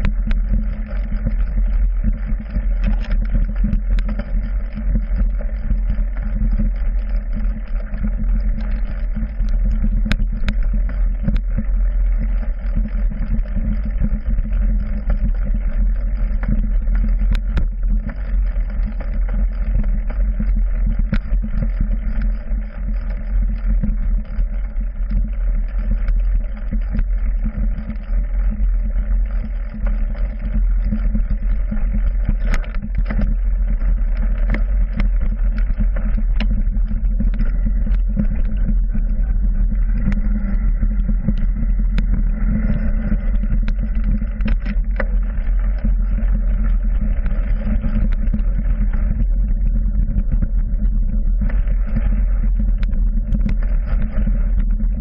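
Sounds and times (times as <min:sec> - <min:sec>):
mountain bike rumbling on rough trail: 0:00.0 - 0:55.0.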